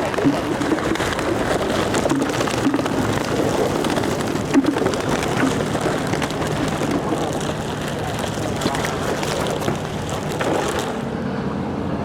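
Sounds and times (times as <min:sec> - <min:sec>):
water pattering and splashing: 0:00.0 - 0:11.2.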